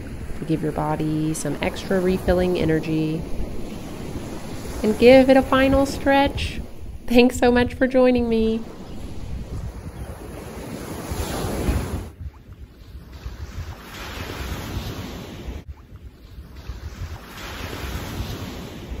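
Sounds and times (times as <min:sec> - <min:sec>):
surf washing onto beach: 0:00.0 - 0:12.1, 0:13.2 - 0:15.6, 0:16.6 - 0:19.0
wind rumbling on microphone: 0:00.0 - 0:19.0.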